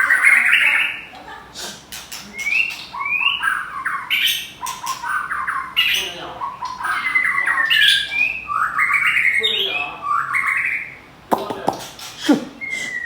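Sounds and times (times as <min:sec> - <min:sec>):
songbirds whistling and clicking: 0:01.8 - 0:13.0.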